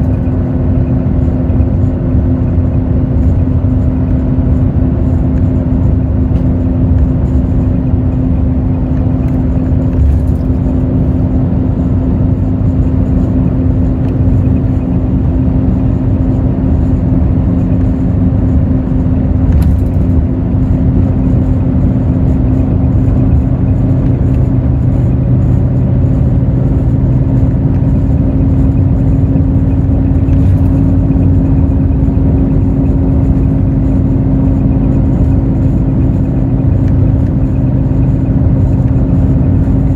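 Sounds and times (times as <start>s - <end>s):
diesel engine hum: 0.0s - 39.9s
low road rumble: 0.0s - 39.9s.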